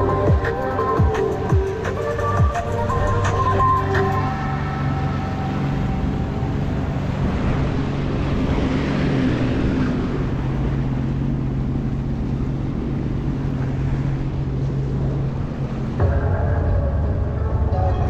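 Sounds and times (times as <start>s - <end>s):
rushing water: 0.0s - 16.4s
personal watercraft engine running: 0.0s - 18.0s
wind: 0.0s - 18.0s.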